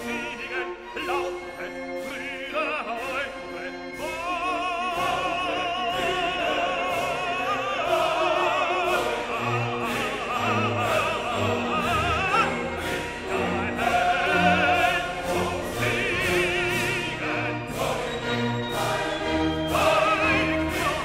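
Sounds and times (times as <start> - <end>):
operatic voice singing: 0.0 - 21.0
orchestral accompaniment: 0.0 - 21.0.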